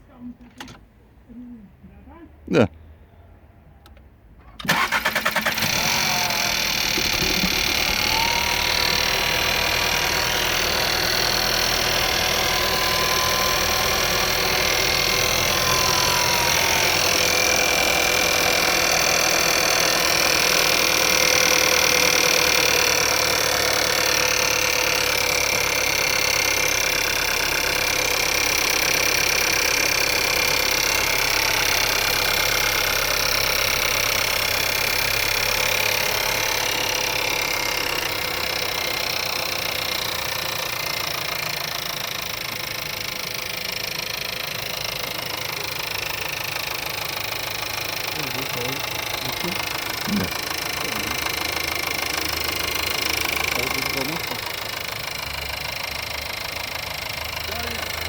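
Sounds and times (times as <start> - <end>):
car engine starting and idling: 3.8 - 58.0.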